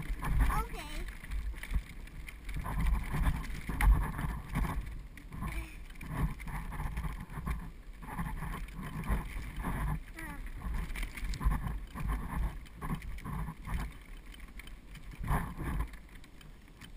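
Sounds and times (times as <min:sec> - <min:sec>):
knocks and rattles over bumps: 0:00.0 - 0:16.9
trailer wheels rumbling: 0:00.0 - 0:16.9.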